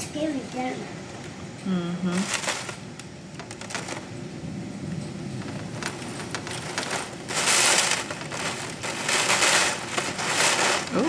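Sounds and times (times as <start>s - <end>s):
gusting wind: 0.0s - 11.0s
heavy rain: 0.0s - 11.0s.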